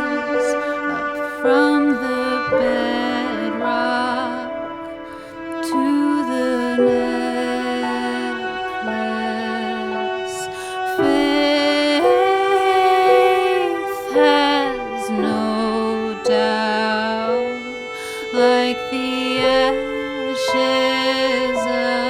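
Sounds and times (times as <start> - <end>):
slow instrumental music: 0.0 - 22.0.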